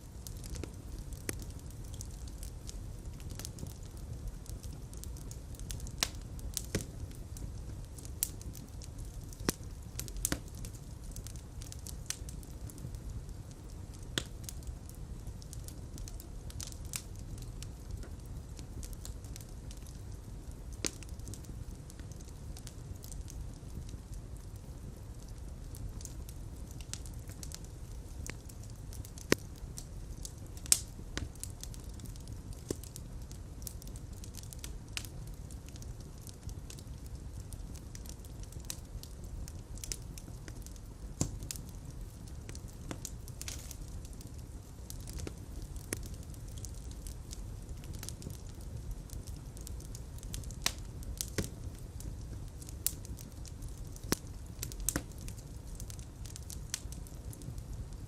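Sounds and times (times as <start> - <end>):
fire crackling in fireplace: 0.0 - 58.0.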